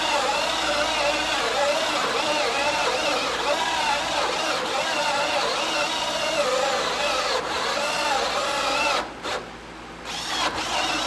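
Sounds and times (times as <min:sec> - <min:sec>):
electric drill boring through wood: 0:00.0 - 0:09.4, 0:10.0 - 0:11.0.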